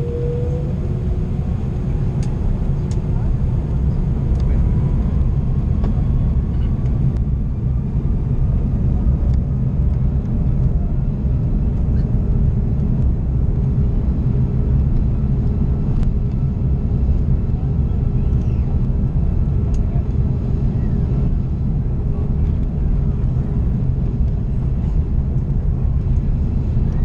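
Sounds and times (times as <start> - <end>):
aircraft cabin engine rumble: 0.0 - 27.0.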